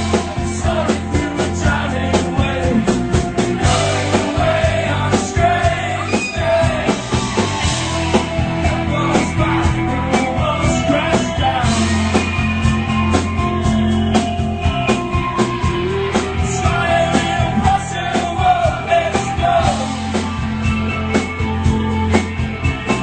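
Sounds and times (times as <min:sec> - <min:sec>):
lead vocal singing: 0:00.0 - 0:13.0, 0:14.6 - 0:20.5
rock band playing: 0:00.0 - 0:23.0.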